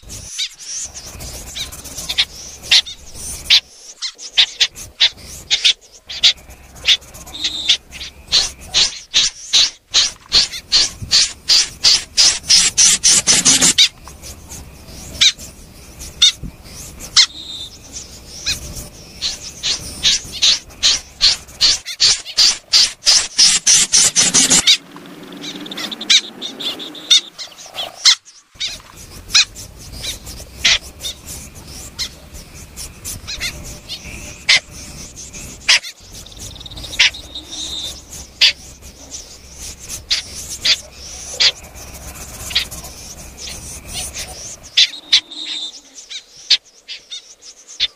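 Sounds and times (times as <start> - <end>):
snipe calling: 0.0 - 47.9.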